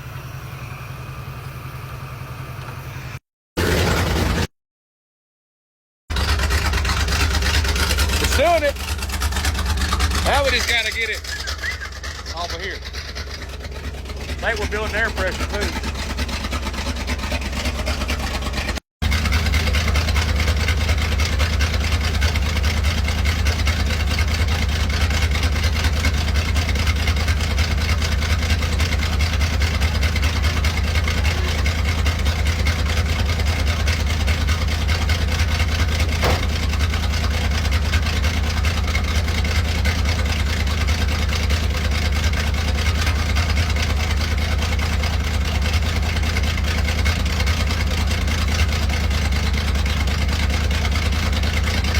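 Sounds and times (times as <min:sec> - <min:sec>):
truck engine idling: 0:00.0 - 0:03.2, 0:06.1 - 0:51.9.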